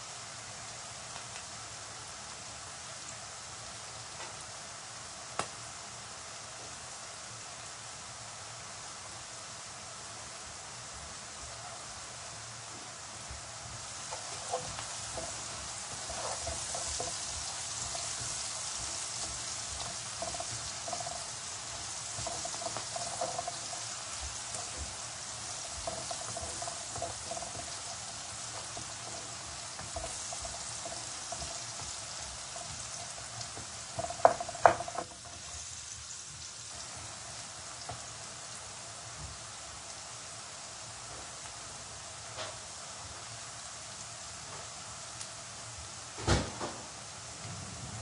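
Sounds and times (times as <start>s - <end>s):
onions frying in hot oil: 0.0s - 48.0s.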